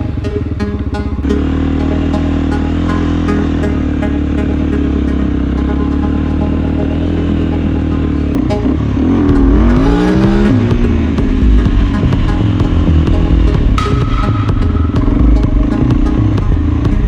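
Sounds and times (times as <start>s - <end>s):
small off-road engine revving: 0.0s - 13.8s.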